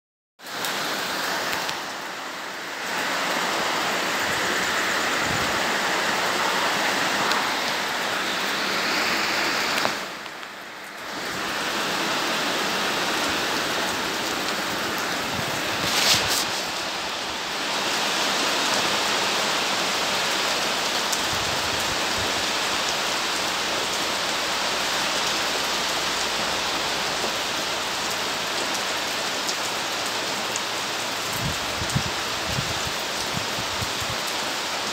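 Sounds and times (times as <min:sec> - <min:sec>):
steady rain falling: 0:00.4 - 0:34.9.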